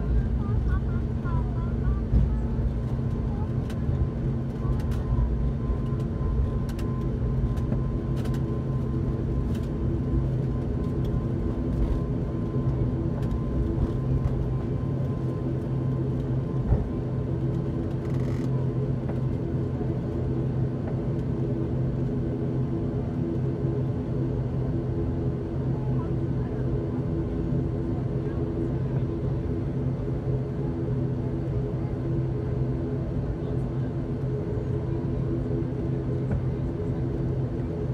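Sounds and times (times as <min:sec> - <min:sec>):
turboprop cabin drone: 0:00.0 - 0:37.9.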